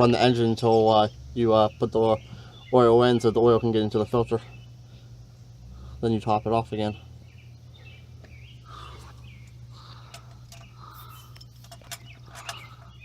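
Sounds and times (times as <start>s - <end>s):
birds chirping: 0.0s - 13.0s
low background hum: 0.0s - 13.0s.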